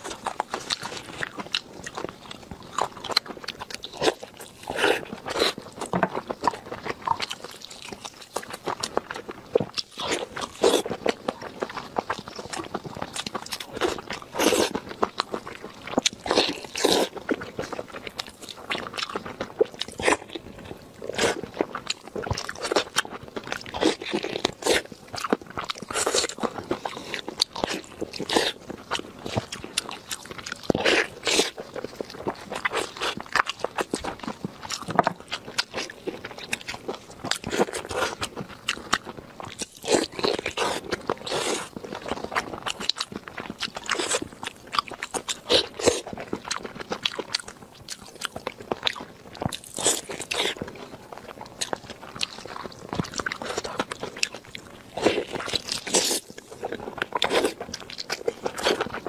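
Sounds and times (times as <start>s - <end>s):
wet chewing and lip smacks: 0.0s - 59.0s.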